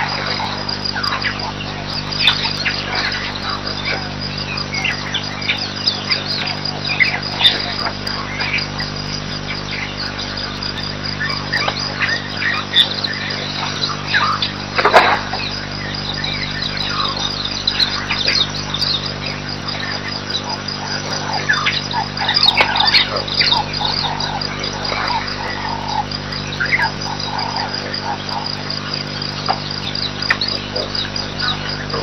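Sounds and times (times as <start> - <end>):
bird calls: 0.0 - 32.0
insects chirping: 0.0 - 32.0
steady low hum: 0.0 - 32.0.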